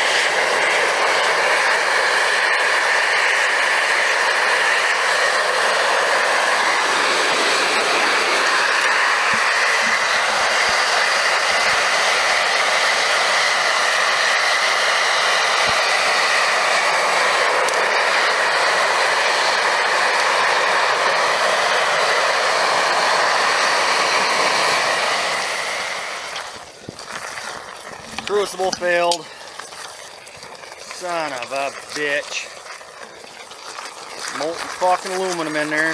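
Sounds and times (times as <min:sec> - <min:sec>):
roar of blower and fire: 0:00.0 - 0:35.9.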